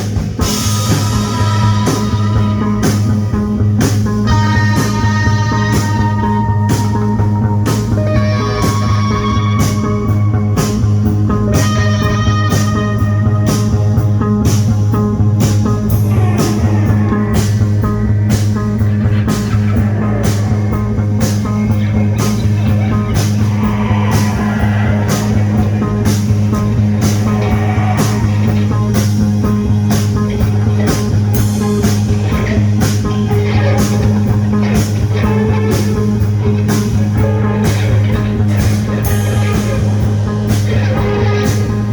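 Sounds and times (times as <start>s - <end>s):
psychedelic rock band playing: 0.0s - 41.9s.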